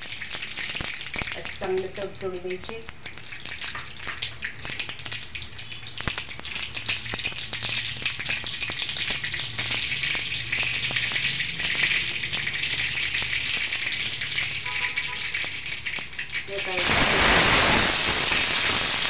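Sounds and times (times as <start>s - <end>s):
seeds sizzling and popping in oil: 0.0s - 19.0s.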